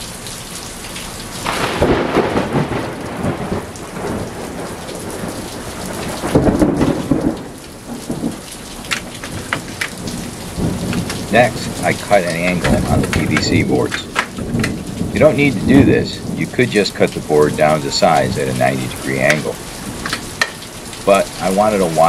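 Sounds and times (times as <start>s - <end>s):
rain falling: 0.0s - 22.0s
thunder rumbling: 1.4s - 22.0s.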